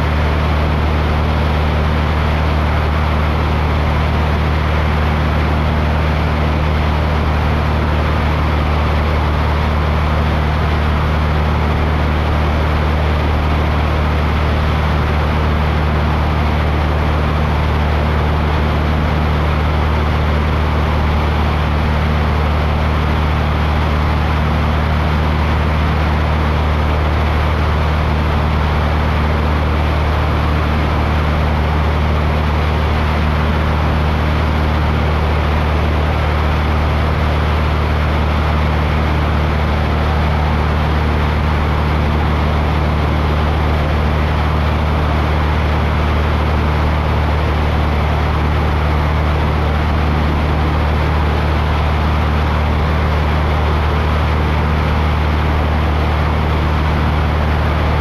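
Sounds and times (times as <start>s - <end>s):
aircraft engine drone: 0.0s - 58.0s.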